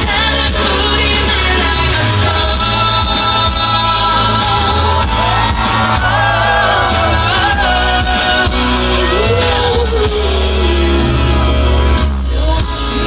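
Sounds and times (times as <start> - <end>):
woman singing a ballad: 0.0 - 11.3
band with heavy bass: 0.0 - 13.0.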